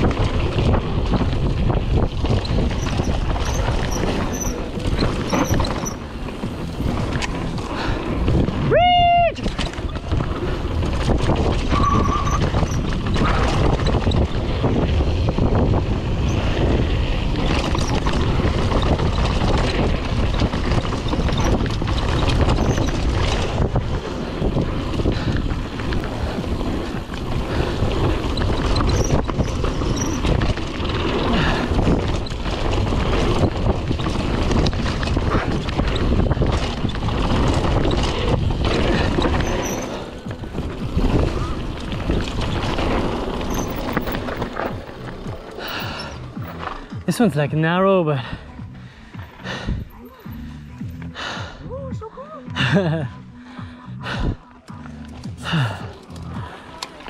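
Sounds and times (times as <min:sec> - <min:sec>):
wind on camera microphone: 0:00.0 - 0:47.1
bike rattling and knocking: 0:00.0 - 0:57.0
mountain bike rumbling on dirt trail: 0:00.0 - 0:57.0.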